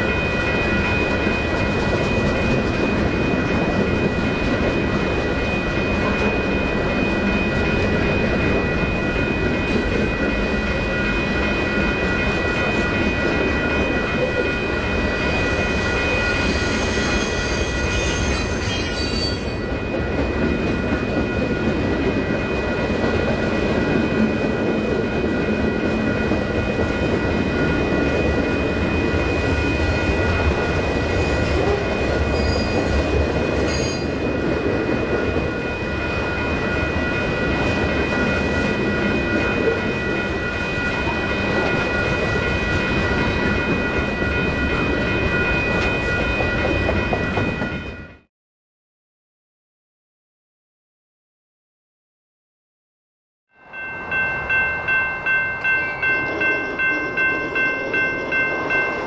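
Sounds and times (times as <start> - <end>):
freight train wheels rumbling: 0.0 - 48.3.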